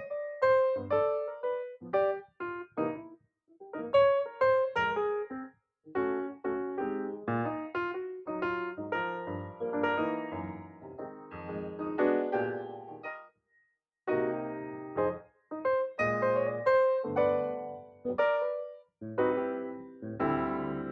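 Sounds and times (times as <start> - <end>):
piano music: 0.0 - 3.1, 3.7 - 13.3, 14.1 - 20.9.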